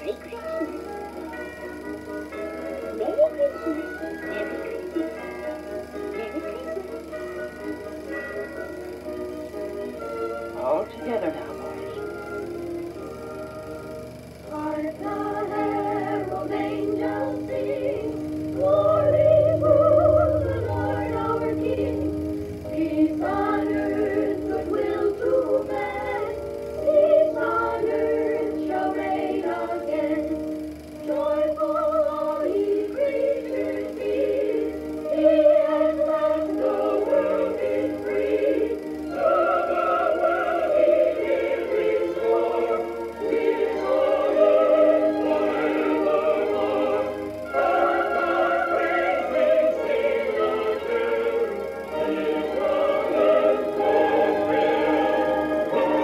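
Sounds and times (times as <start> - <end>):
held musical accompaniment: 0.0 - 56.0
children's choir singing a hymn: 1.8 - 12.1, 14.5 - 56.0.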